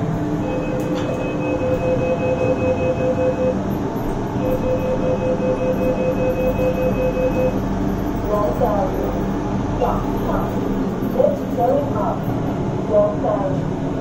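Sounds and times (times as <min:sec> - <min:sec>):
lift car running in shaft: 0:00.0 - 0:14.0
pulsing mid-pitched whine: 0:00.2 - 0:13.4.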